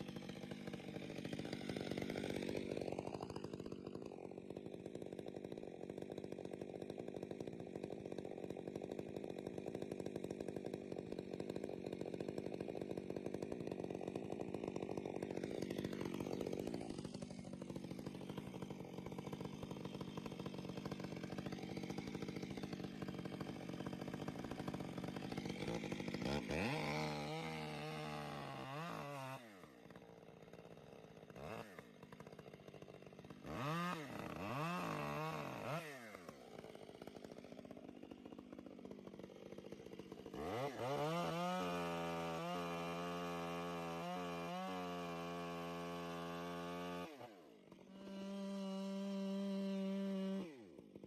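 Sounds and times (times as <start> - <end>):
chainsaw engine at high revs: 0.0 - 51.0.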